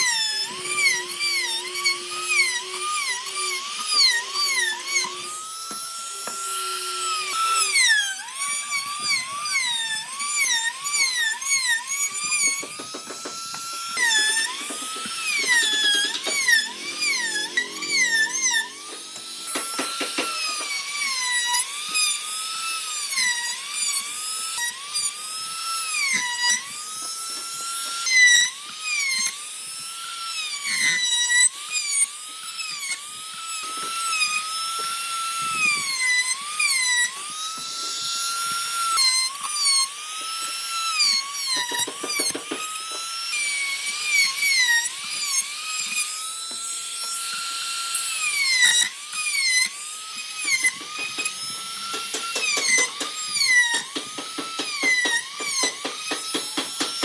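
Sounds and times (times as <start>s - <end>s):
power tool whining on wood: 0.0s - 57.0s.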